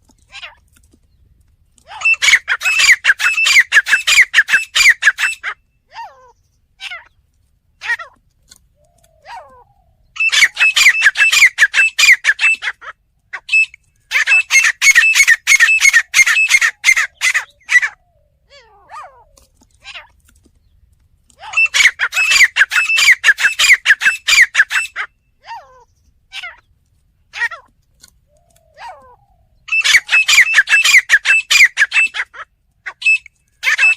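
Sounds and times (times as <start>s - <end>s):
francolin calling: 1.9s - 7.1s, 8.8s - 20.0s, 21.4s - 26.6s, 28.3s - 33.9s.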